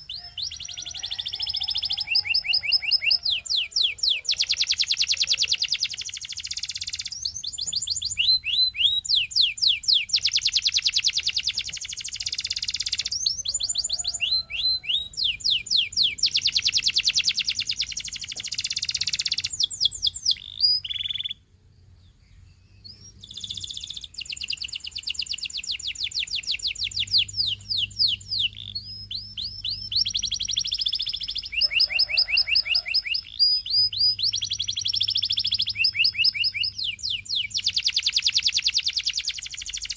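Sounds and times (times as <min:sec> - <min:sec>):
canary singing trills: 0:00.0 - 0:21.4, 0:22.0 - 0:39.9.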